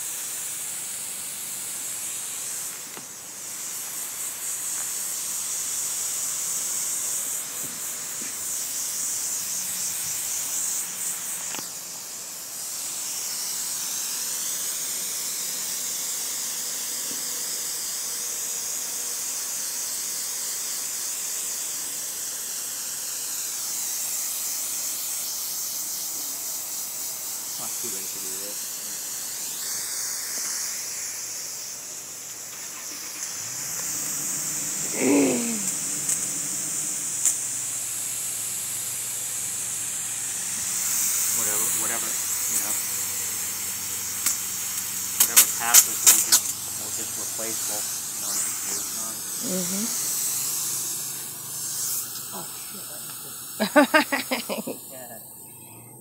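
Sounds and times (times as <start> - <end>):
hose nozzle spraying water: 0.0 - 55.2.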